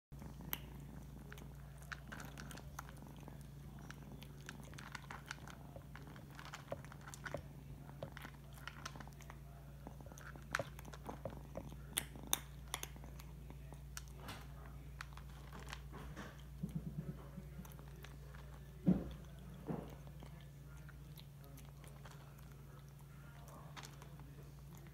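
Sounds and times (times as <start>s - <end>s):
steady low hum: 0.1s - 24.9s
kitten crunching dry kibble: 0.2s - 24.9s.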